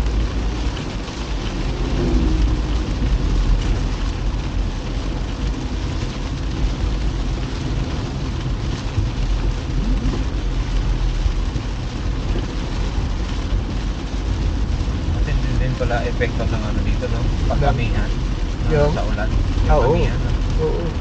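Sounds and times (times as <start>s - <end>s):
heavy rain on a car: 0.0s - 21.0s
tyre and engine rumble: 0.0s - 21.0s.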